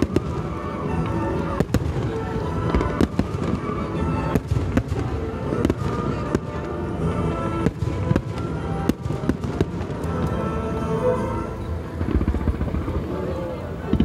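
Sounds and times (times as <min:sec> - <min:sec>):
crackle of fireworks: 0:00.0 - 0:14.0
music: 0:00.0 - 0:14.0.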